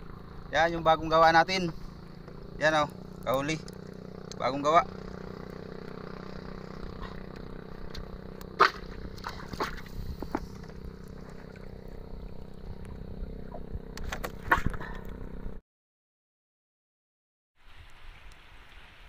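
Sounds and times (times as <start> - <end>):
boat engine drone: 0.0 - 15.6.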